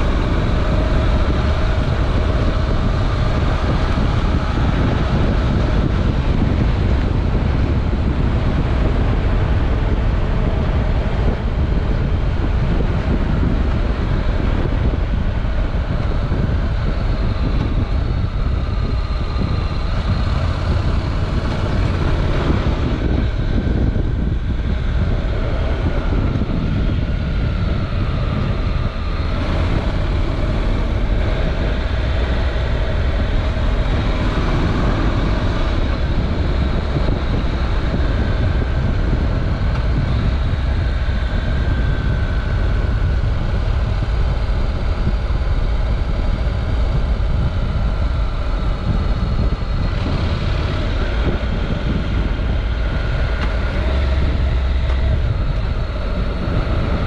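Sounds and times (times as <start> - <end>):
motorcycle engine running: 0.0 - 57.0
wind rush: 0.0 - 57.0.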